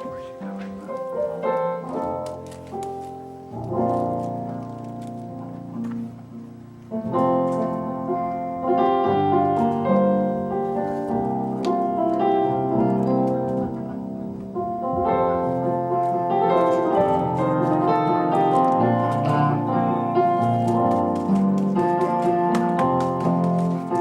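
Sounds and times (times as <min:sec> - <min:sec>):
piano playing a hymn: 0:00.0 - 0:24.0.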